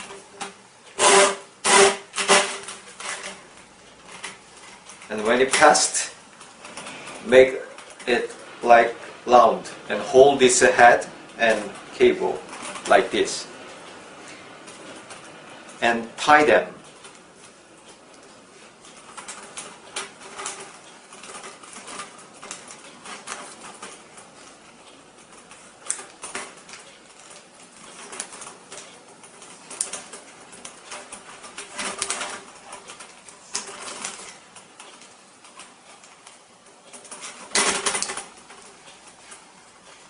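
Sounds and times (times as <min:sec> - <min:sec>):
fish tape rustling and scraping: 0:00.0 - 0:09.0, 0:09.7 - 0:40.0.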